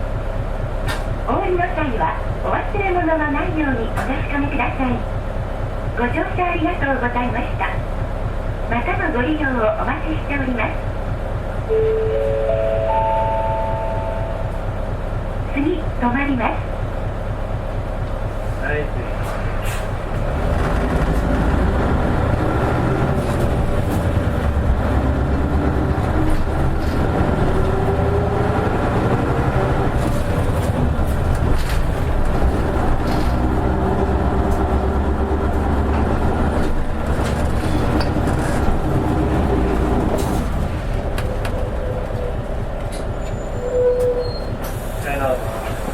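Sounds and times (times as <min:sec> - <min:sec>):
bus engine rumble: 0:00.0 - 0:45.9.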